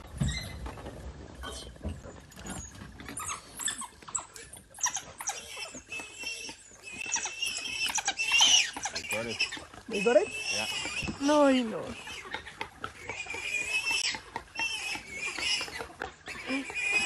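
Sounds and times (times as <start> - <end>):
high-pitched squeals and calls: 2.4 - 17.0.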